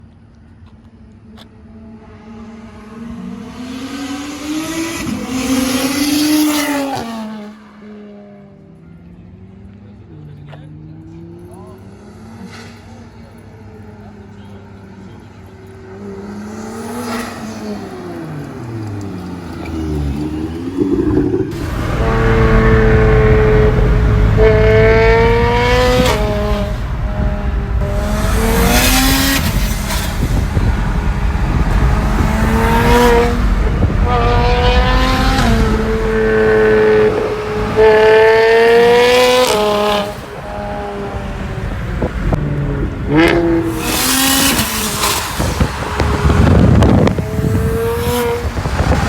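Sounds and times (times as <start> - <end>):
car engine revving: 1.8 - 49.0.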